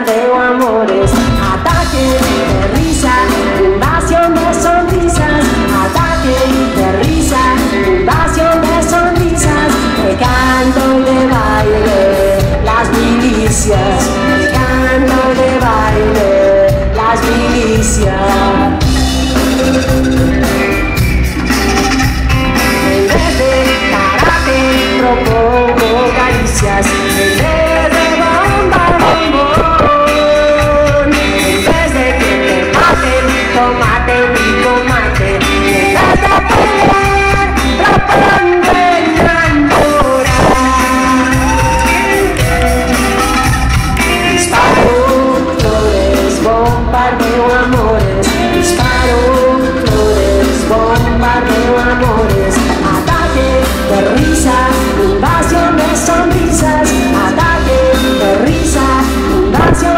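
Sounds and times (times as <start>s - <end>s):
woman singing: 0.0s - 20.9s, 22.5s - 59.9s
live rock band playing: 0.0s - 59.9s.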